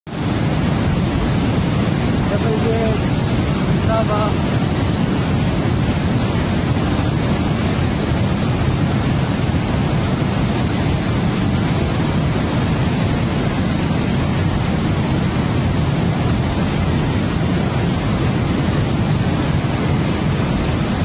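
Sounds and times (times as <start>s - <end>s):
floodwater rushing: 0.1s - 21.0s.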